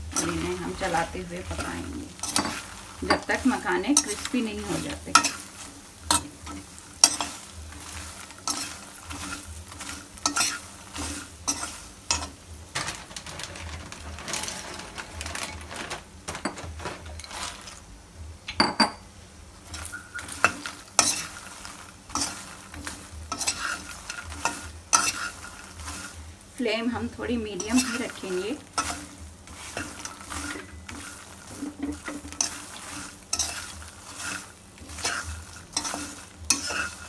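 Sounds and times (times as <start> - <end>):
light sizzle: 0.0 - 37.0
spatula scraping a pan: 0.1 - 15.7, 19.6 - 26.3, 27.4 - 37.0.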